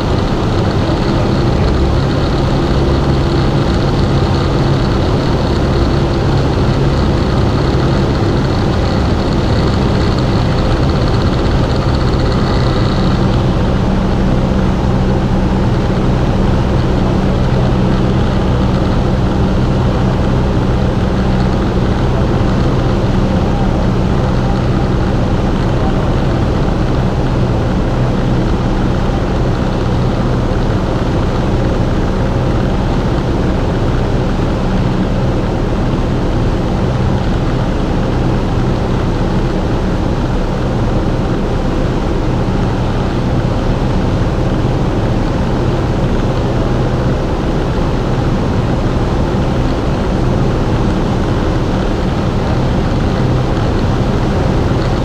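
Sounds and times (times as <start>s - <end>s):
aircraft engine droning: 0.0s - 55.0s
rushing airflow: 0.0s - 55.0s.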